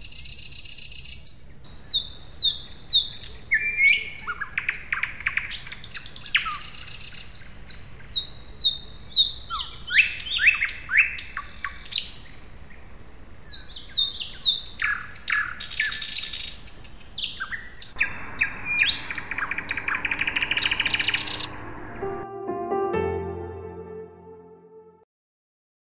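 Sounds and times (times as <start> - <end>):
songbird singing: 0.0 - 22.2.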